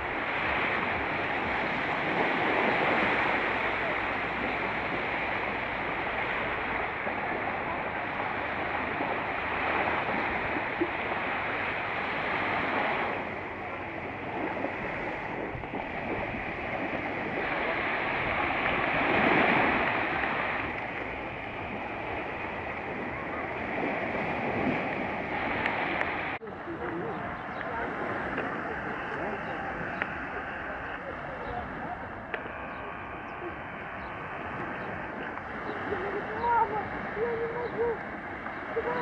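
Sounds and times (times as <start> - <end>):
waves breaking on shore: 0.0 - 39.0.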